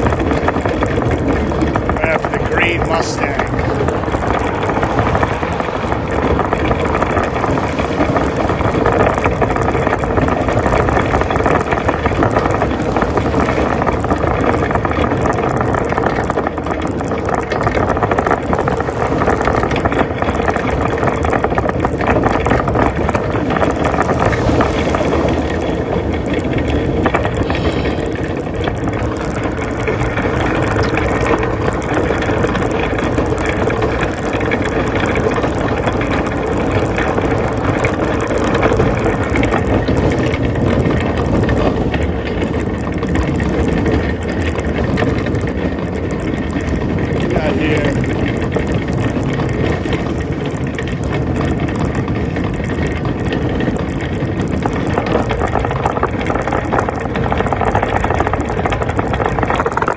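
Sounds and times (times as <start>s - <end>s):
shopping cart rattling: 0.0s - 59.9s.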